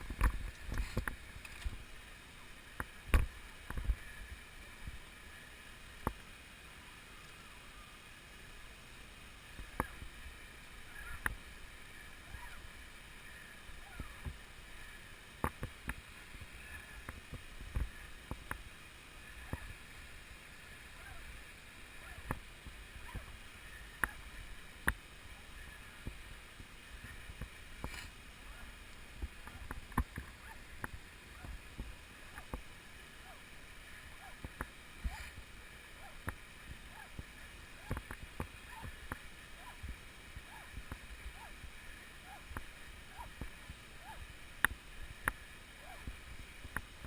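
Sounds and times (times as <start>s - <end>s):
low steady hiss: 0.0s - 47.0s.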